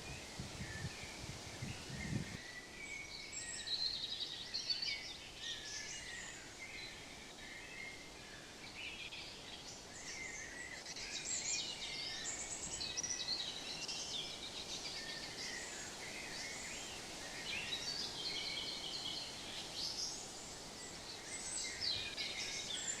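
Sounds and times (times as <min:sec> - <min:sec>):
songbirds singing and chirping: 0:00.0 - 0:23.0
steady background hiss: 0:00.0 - 0:23.0.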